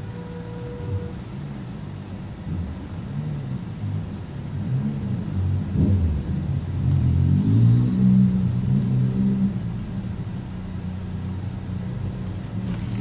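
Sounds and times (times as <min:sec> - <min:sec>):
car engine accelerating: 0:00.0 - 0:13.0
road noise: 0:00.0 - 0:13.0.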